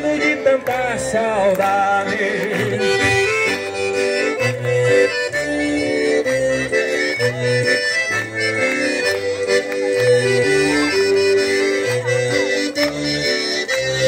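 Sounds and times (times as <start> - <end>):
accordion folk music: 0.0 - 14.0.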